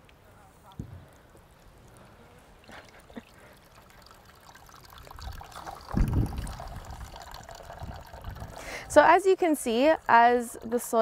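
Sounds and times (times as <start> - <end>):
water trickling into plastic tub: 1.1 - 11.0.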